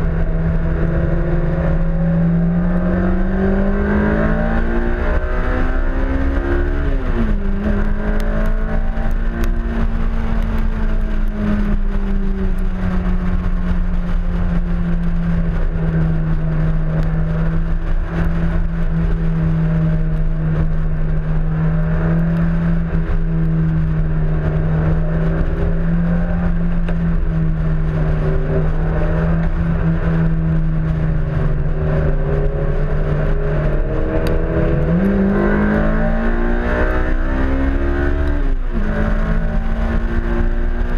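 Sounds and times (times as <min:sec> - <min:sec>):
car engine running: 0:00.0 - 0:40.9
wind noise: 0:00.0 - 0:40.9.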